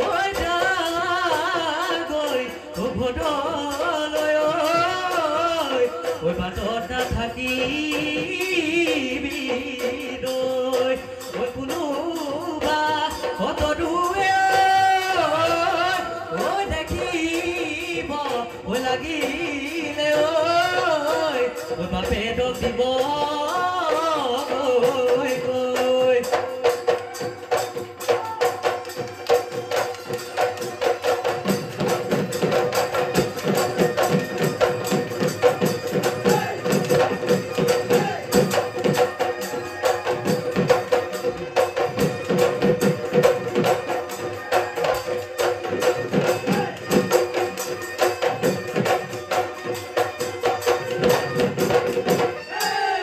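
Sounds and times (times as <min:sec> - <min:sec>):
fast drumming: 0:00.0 - 0:53.0
jingling cymbal: 0:00.0 - 0:53.0.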